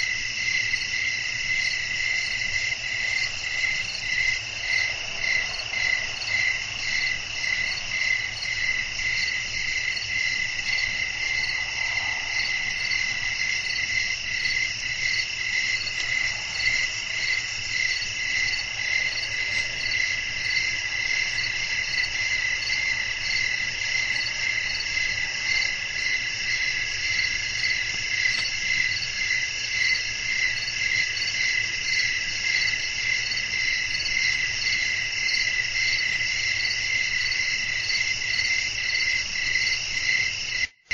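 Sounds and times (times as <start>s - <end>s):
crickets chirring: 0.0s - 40.8s.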